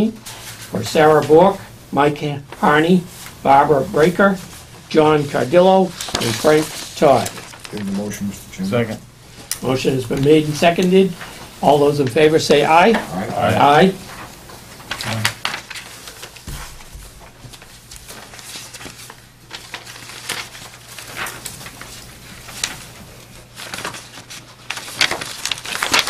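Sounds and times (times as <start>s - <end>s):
papers rustling: 0.3s - 26.0s.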